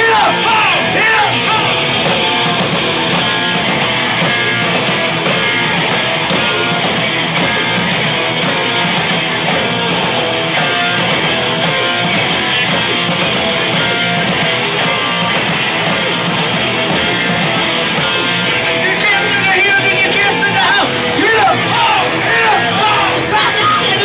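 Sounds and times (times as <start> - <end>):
loud electric guitar: 0.0 - 24.0
rock band playing live: 0.0 - 24.0.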